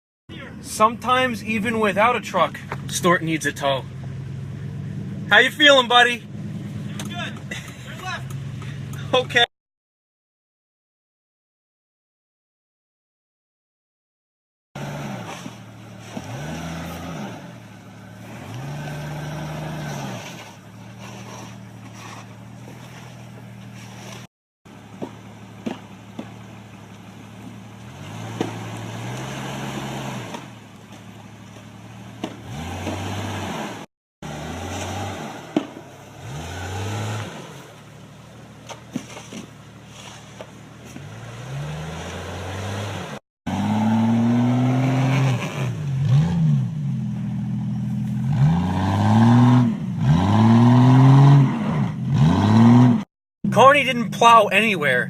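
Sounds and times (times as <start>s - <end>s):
vehicle engine revving: 0.4s - 9.5s, 14.8s - 54.4s.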